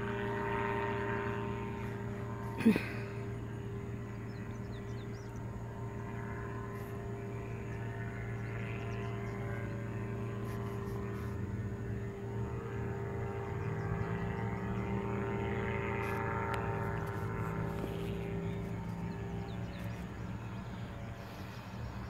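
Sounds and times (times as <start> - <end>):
engine and propeller droning overhead: 0.0 - 22.0.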